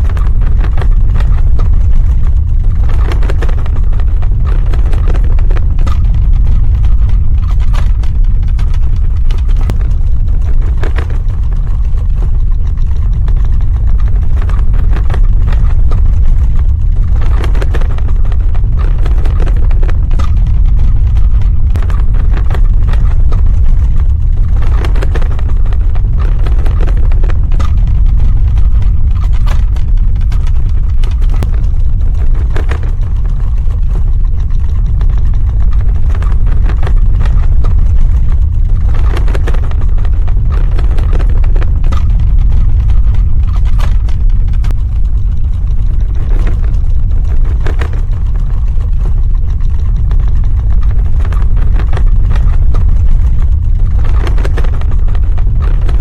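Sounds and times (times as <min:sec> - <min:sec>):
crackles and rattles: 0:00.0 - 0:56.0
deep rumble: 0:00.0 - 0:56.0.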